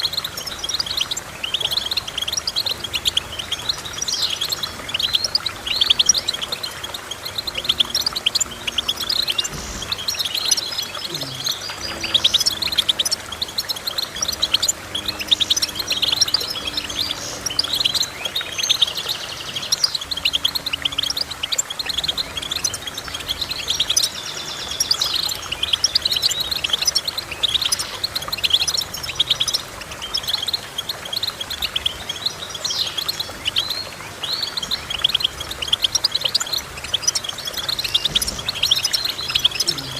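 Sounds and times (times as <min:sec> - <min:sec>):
songbird twittering song: 0:00.0 - 0:39.9.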